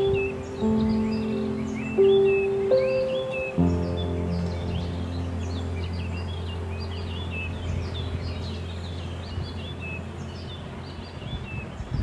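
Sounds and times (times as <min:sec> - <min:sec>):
low hum: 0:00.0 - 0:11.4
birds chirping and whistling: 0:00.0 - 0:12.0.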